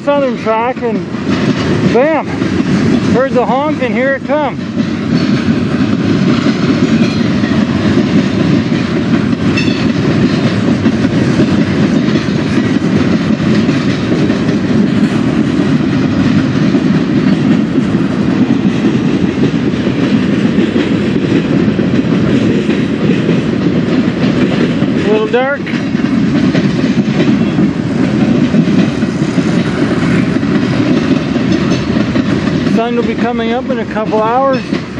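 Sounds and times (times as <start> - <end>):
freight train wheels on rails: 0.0 - 34.9.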